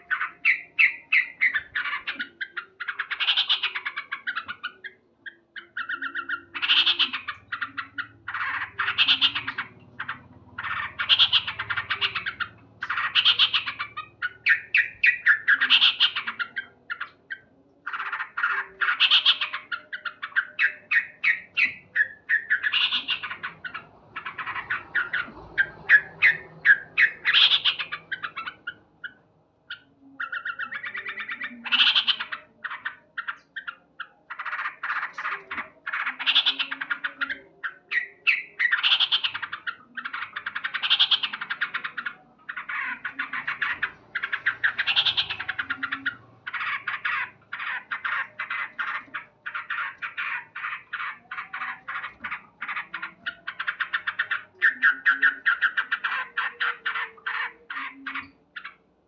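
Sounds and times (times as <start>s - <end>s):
bulbul calling: 0.0s - 58.9s.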